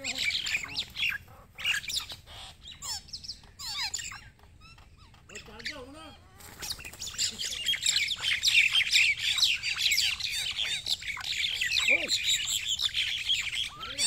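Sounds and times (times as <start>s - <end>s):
birds squawking and chirping: 0.0s - 14.0s.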